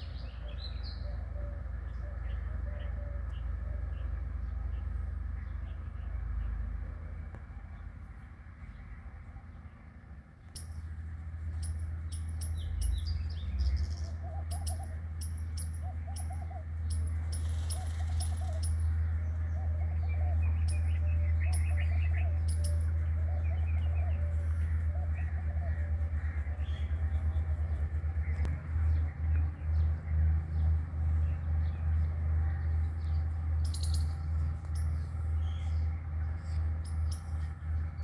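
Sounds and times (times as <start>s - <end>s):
birds chirping and calling: 0.0s - 38.0s
steady low rumble: 0.0s - 38.0s.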